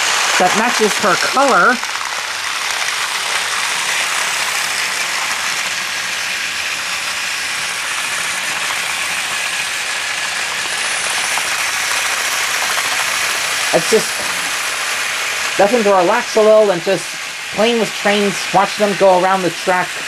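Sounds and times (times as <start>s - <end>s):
toy trains mechanical whir: 0.0s - 20.0s.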